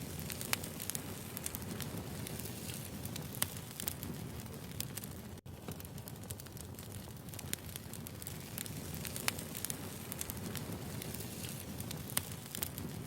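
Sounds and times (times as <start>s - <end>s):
firewood popping and snapping: 0.0s - 13.0s
flames rumbling: 0.0s - 13.0s.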